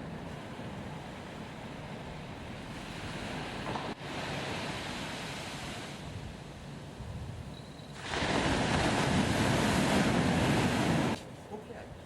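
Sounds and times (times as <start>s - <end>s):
sea surf washing on beach: 0.0s - 7.0s, 7.9s - 11.3s.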